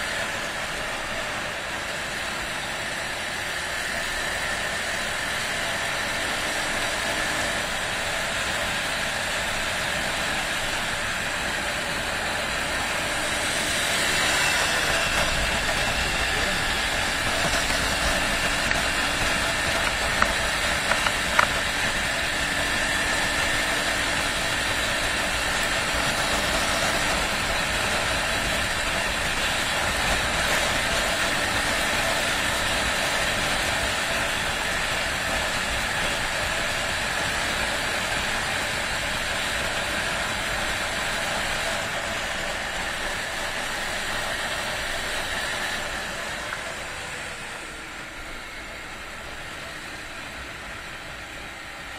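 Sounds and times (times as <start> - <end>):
motorcycle engine cruising: 0.0 - 51.9.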